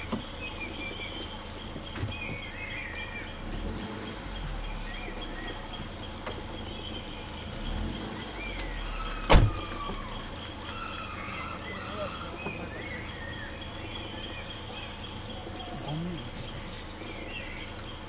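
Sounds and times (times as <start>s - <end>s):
crickets chirring: 0.0s - 18.0s
whistled bird calls: 0.0s - 18.0s.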